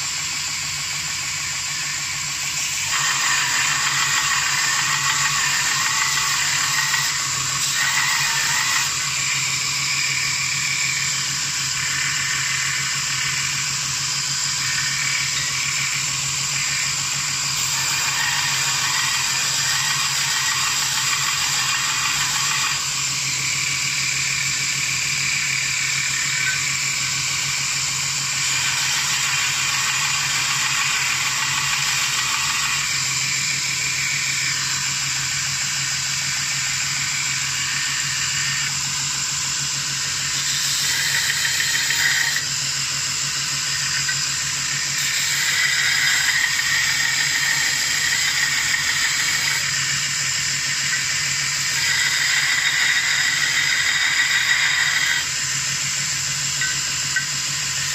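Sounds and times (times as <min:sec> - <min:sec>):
belt sander humming: 0:00.0 - 0:57.9
rasping grind of steel on belt: 0:01.6 - 0:23.4, 0:27.4 - 0:57.9.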